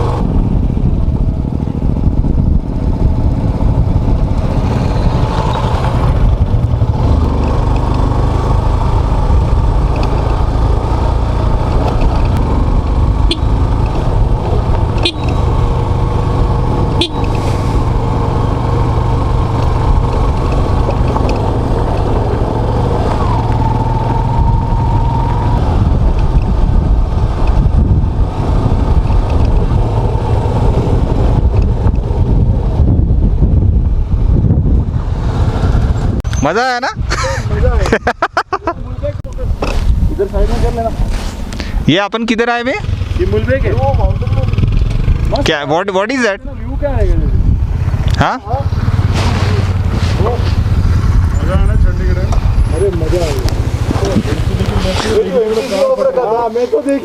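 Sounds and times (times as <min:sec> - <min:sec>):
wind on microphone: 0:00.0 - 0:09.8, 0:11.2 - 0:36.4, 0:39.0 - 0:41.8, 0:46.4 - 0:55.6
motorcycle engine rumble: 0:00.0 - 0:41.9, 0:42.6 - 0:45.5, 0:46.2 - 0:57.0.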